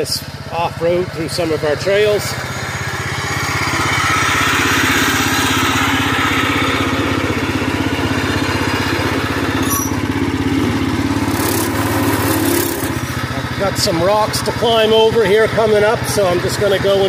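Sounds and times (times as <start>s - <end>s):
lawn tractor engine running: 2.5s - 17.0s.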